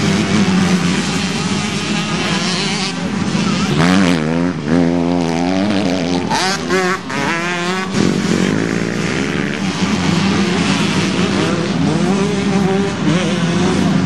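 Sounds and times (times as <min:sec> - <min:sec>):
motocross bikes revving past: 0:00.0 - 0:14.0.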